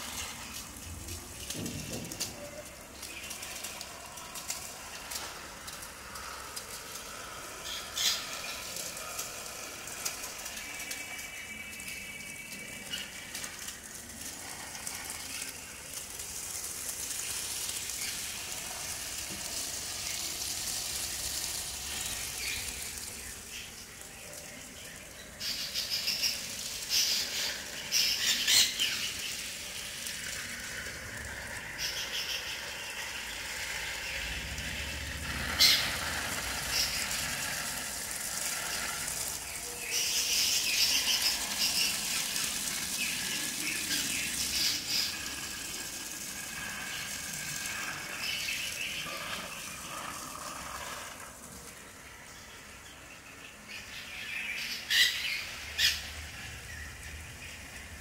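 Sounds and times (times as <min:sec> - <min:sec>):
hose nozzle spraying water on plants: 0:00.0 - 0:58.0.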